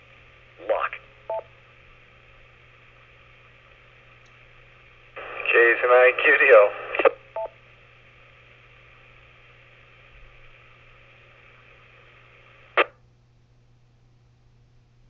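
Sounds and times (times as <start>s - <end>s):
radio static hiss: 0.0s - 4.1s, 4.7s - 13.0s.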